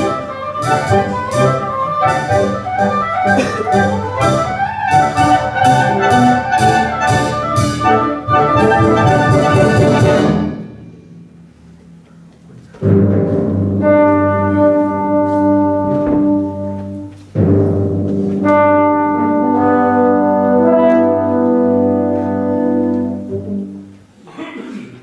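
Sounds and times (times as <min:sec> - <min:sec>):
wind band playing loud chords: 0:00.0 - 0:11.4, 0:12.8 - 0:24.0
timpani: 0:00.0 - 0:24.2.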